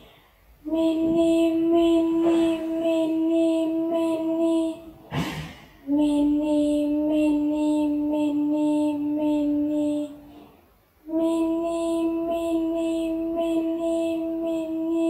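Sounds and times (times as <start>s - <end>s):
high-pitched voice chanting: 0.6s - 5.1s, 5.8s - 10.3s, 11.0s - 15.0s.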